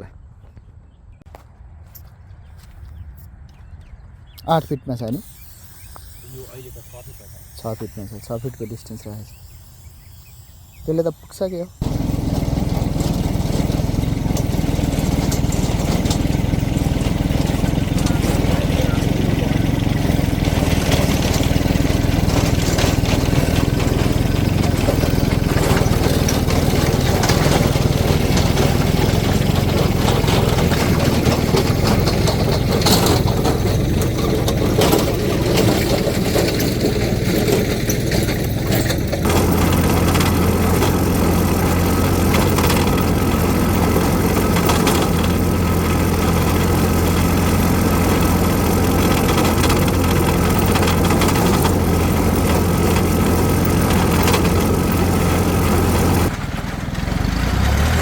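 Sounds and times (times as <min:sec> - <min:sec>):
tractor engine running: 0:03.6 - 0:58.0.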